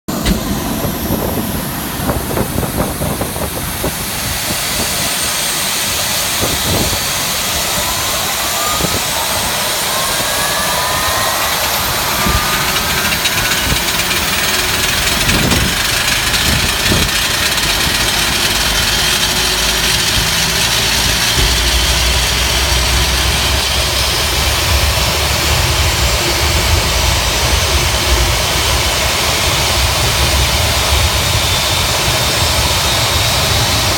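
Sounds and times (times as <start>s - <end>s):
turbofan engine spooling up: 0.0s - 33.9s
low rumble: 0.1s - 33.9s.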